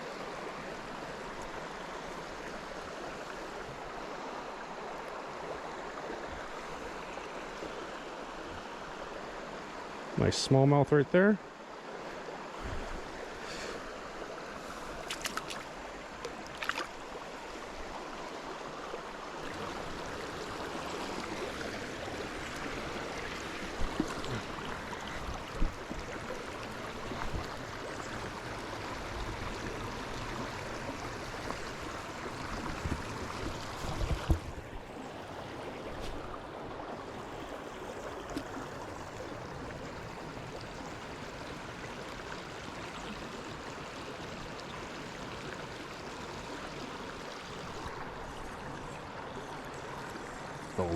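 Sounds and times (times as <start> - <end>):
river current flowing: 0.0 - 50.9.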